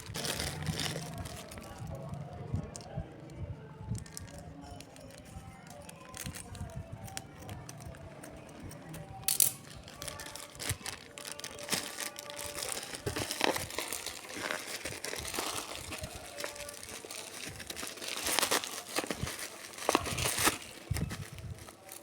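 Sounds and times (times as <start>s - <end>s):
packaging crinkling: 0.0s - 2.7s, 3.9s - 22.0s.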